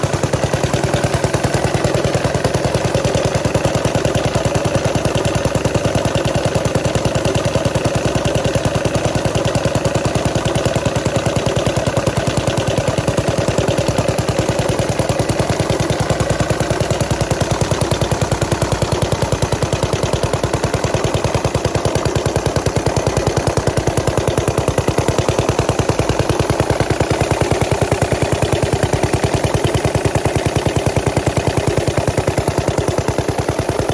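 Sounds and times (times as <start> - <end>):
small gas engine popping: 0.0 - 33.9.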